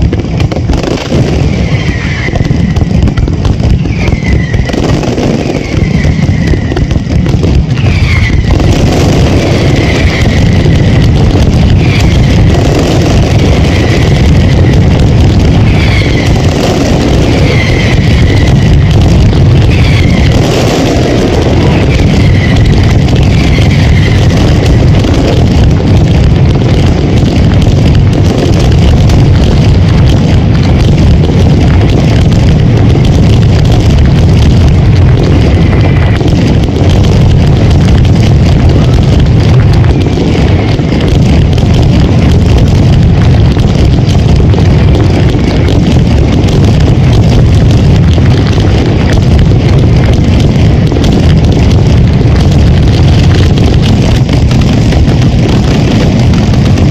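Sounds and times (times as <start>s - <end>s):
firecracker barrage rumbling: 0.0s - 56.9s.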